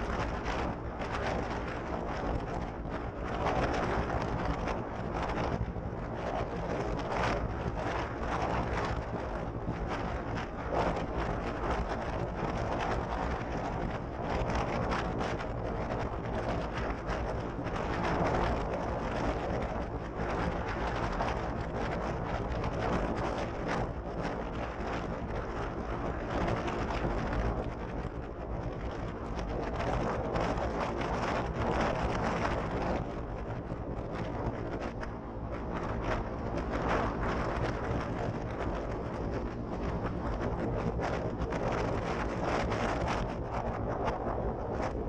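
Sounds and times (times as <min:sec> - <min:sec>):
engine running steadily: 0:00.0 - 0:45.0
wind on microphone: 0:00.0 - 0:45.0.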